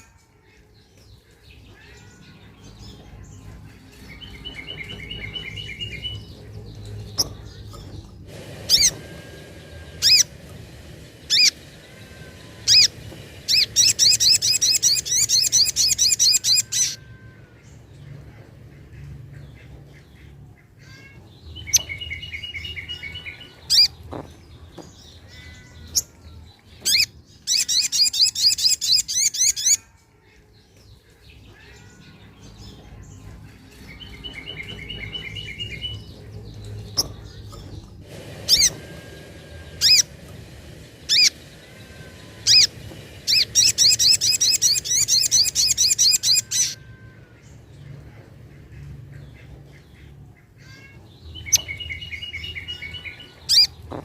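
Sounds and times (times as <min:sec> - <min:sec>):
bird calling and trilling: 0:00.0 - 0:54.0.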